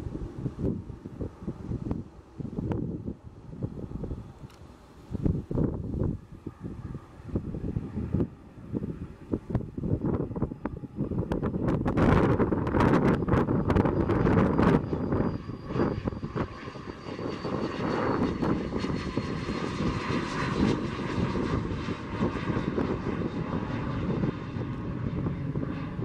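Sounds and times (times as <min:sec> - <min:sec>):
jet passing overhead: 0:00.0 - 0:26.0
wind gusts on microphone: 0:00.0 - 0:26.0.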